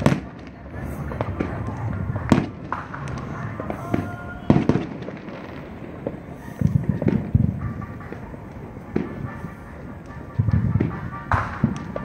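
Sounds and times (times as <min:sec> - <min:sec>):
rumble of distant fireworks: 0:00.0 - 0:12.0
sharp firework bangs: 0:00.0 - 0:12.0
small firework pops: 0:00.0 - 0:12.0.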